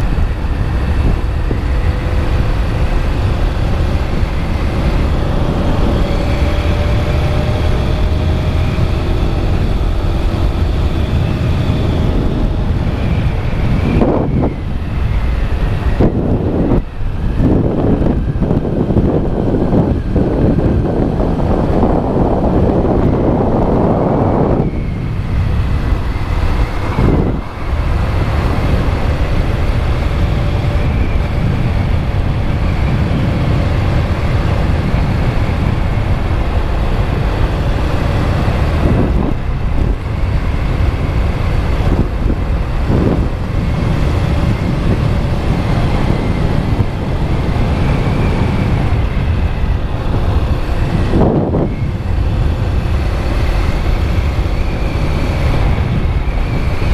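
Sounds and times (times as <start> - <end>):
motorcycle engine running: 0.0 - 56.9
wind rushing over microphone: 0.0 - 56.9.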